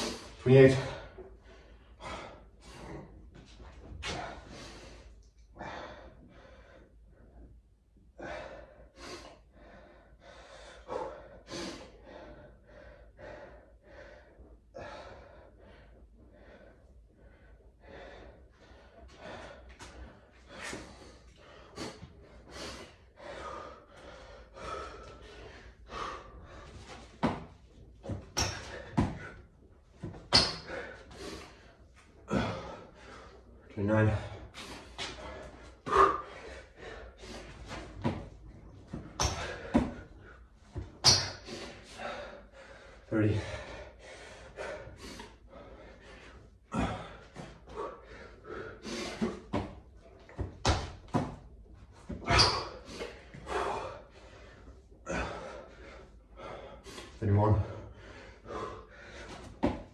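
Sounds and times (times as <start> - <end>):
man breathing hard and gasping: 0.0 - 59.9.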